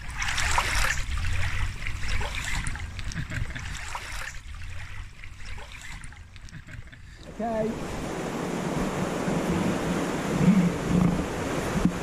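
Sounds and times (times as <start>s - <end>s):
river water splashing and trickling: 0.0s - 12.0s.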